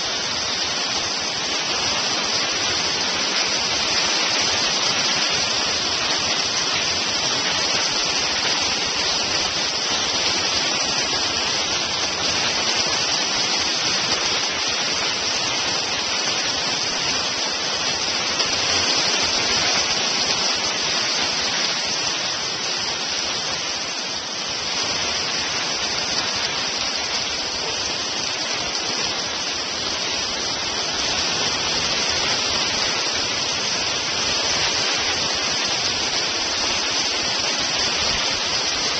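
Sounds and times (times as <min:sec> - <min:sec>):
hailstones pelting down: 0:00.0 - 0:38.9.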